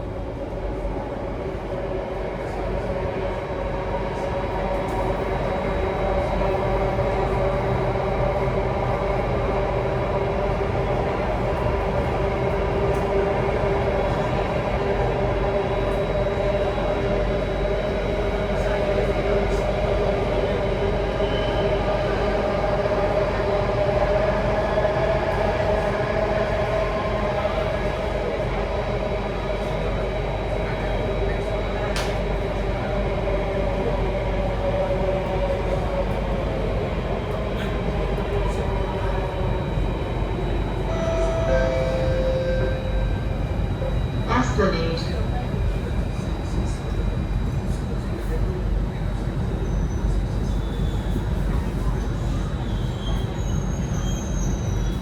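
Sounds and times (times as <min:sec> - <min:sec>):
metro train rail rumble: 0:00.0 - 0:55.0
train hum of steady tones: 0:00.0 - 0:55.0.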